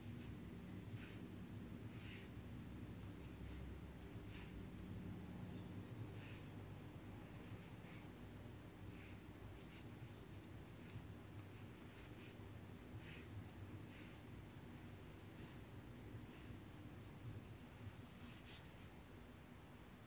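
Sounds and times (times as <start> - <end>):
yarn rustling with crochet hook clicks: 0.0 - 19.0.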